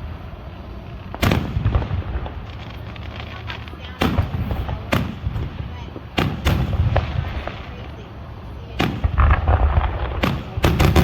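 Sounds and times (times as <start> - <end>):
fireworks booming: 0.0 - 11.0
fireworks crackling: 0.0 - 11.0
small fireworks pops: 0.0 - 11.0.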